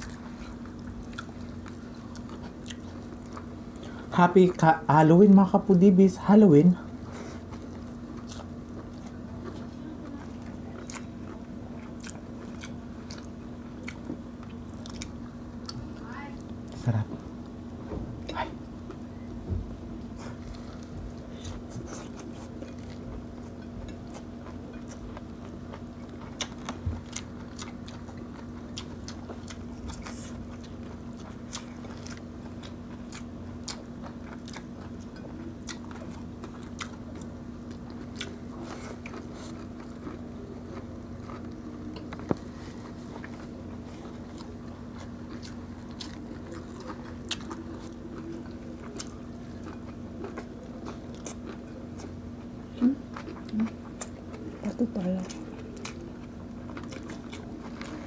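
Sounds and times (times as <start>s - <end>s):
chewing and lip smacks: 0.0s - 4.1s, 7.1s - 16.8s, 20.2s - 58.0s.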